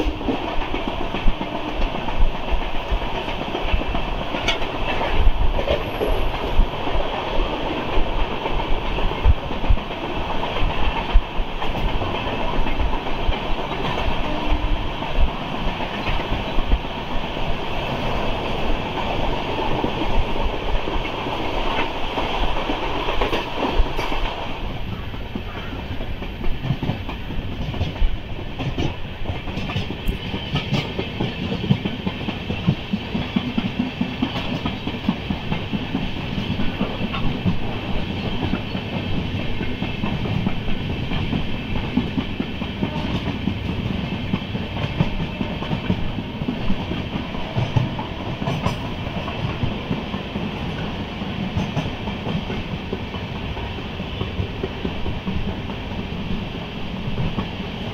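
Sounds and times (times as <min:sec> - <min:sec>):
clickety-clack over rail joints: 0:00.0 - 0:57.9
train wheels rumbling on rails: 0:00.0 - 0:57.9.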